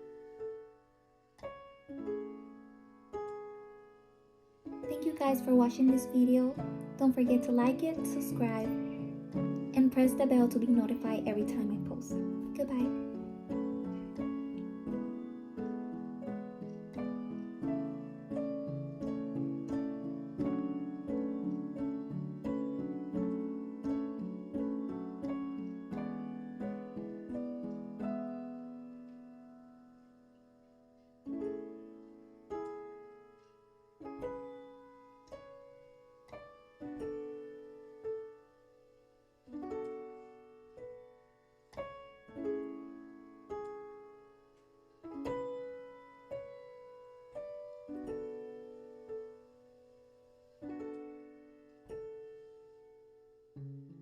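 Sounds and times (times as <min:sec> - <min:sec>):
gentle solo piano: 0:00.0 - 0:54.0.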